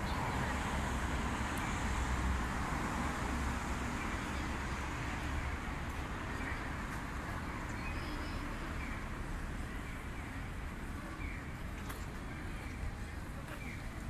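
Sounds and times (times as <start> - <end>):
distant road traffic rumble: 0.0 - 14.0.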